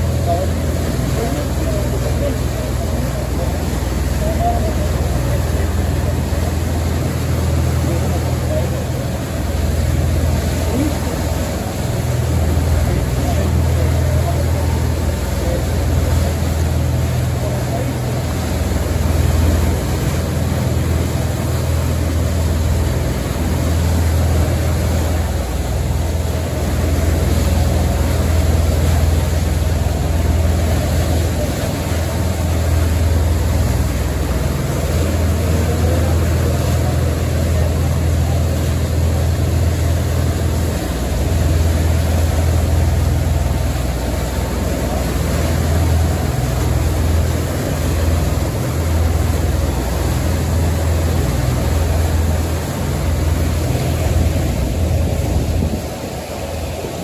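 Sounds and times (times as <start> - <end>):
ferry engine drone: 0.0 - 57.0
propeller wash hissing: 0.0 - 57.0.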